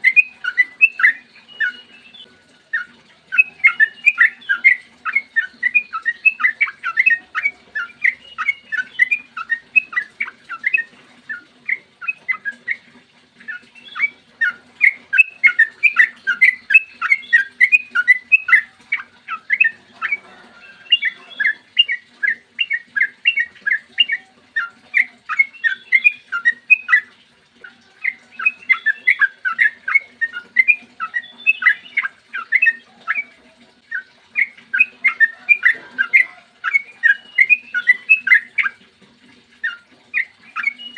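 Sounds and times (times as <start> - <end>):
bulbul singing rapid notes: 0.0 - 38.9, 39.5 - 40.9.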